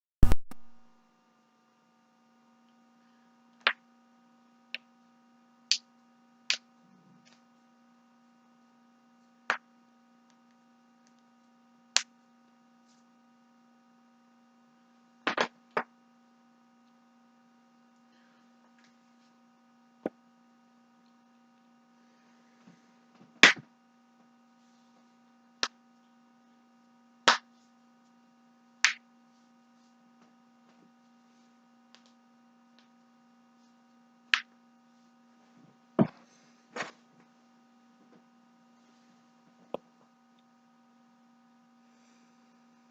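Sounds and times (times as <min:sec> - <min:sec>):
steady low hum: 0:00.2 - 0:42.9.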